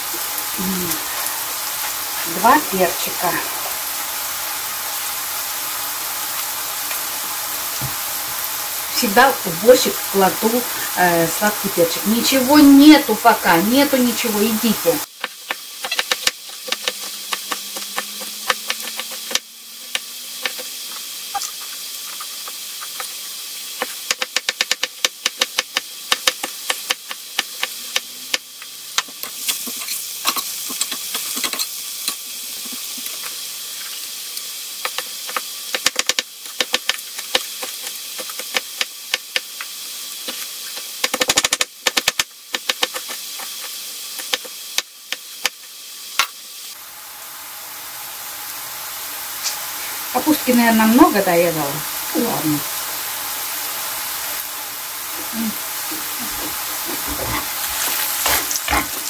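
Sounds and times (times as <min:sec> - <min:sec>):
vegetables frying in a pan: 0:00.0 - 0:59.0.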